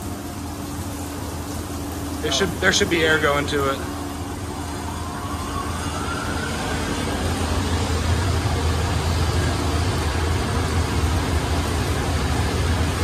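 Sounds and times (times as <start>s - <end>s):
car wash pump hum: 0.0s - 13.0s
water spray hissing on truck: 0.0s - 13.0s
faint rising whine: 2.2s - 13.0s.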